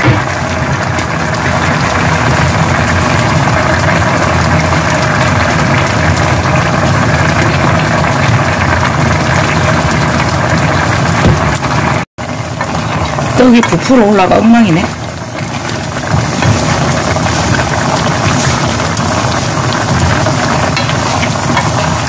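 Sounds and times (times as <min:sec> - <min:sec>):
stew bubbling in a pot: 0:00.0 - 0:22.0.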